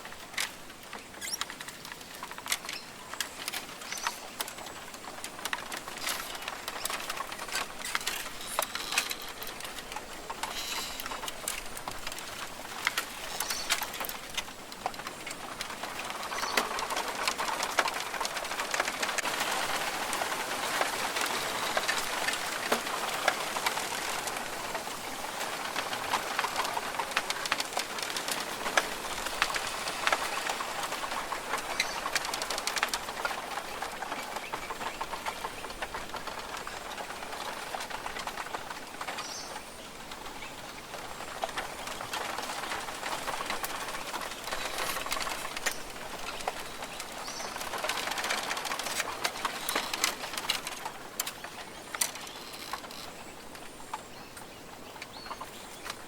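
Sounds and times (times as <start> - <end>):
steady hiss: 0.0 - 56.0
birds calling: 0.9 - 19.4, 29.1 - 56.0.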